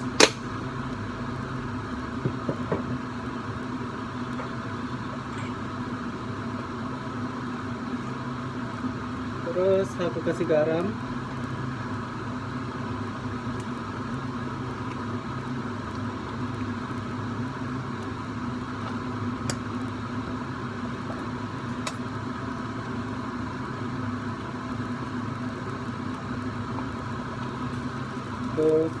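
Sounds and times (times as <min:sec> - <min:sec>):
appliance fan hum: 0:00.0 - 0:29.0
sauce frying in saucepan: 0:00.0 - 0:29.0.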